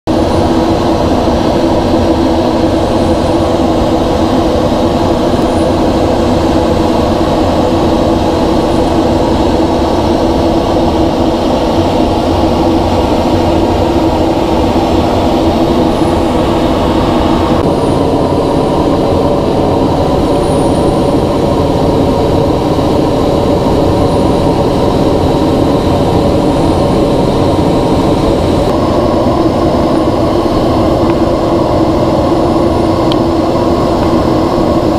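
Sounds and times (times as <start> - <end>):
jet engine cockpit drone: 0.0 - 34.9
steady multi-toned hum: 0.1 - 34.9.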